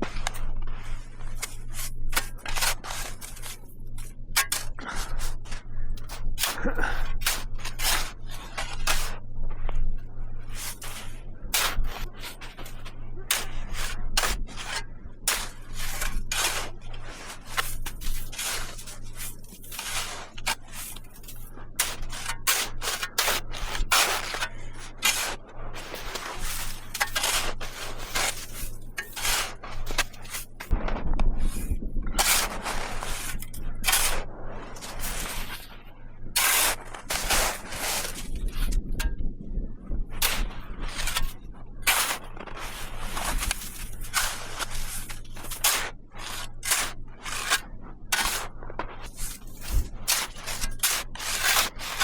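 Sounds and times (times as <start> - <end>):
rubbing or scraping strokes: 0.0 - 9.2, 10.5 - 30.7, 31.4 - 39.0, 40.2 - 52.0
low hum: 0.0 - 52.0.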